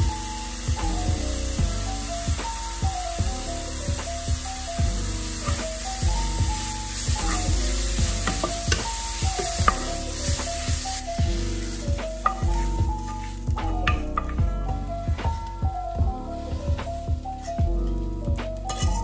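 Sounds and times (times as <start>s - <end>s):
food sizzling in a frying pan: 0.0s - 19.0s
gentle instrumental music: 0.0s - 19.0s.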